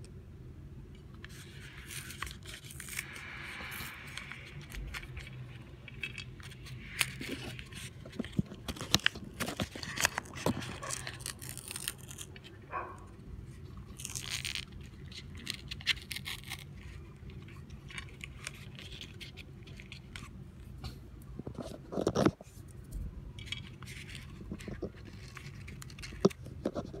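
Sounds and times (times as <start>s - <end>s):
paper wrapper rustling: 1.2s - 20.4s, 23.4s - 27.0s
person biting and chewing ice cream: 1.3s - 20.8s, 23.8s - 27.0s.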